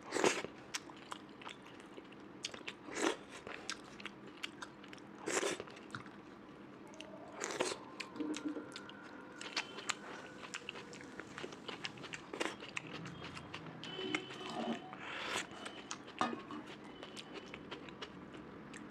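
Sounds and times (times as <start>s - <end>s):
close chewing and mouth clicks: 0.0s - 6.2s, 6.9s - 18.9s.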